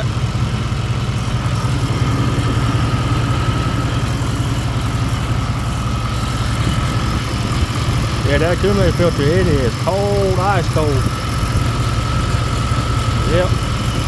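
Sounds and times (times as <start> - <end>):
car engine idling: 0.0 - 14.0
faint high compressor whine: 0.0 - 14.0.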